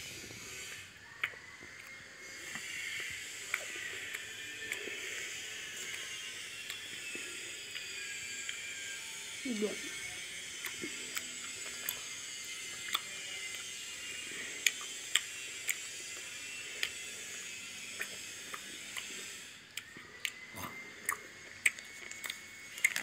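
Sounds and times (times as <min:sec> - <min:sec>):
sticky chewing mouth clicks: 0:00.5 - 0:08.7, 0:10.5 - 0:23.0.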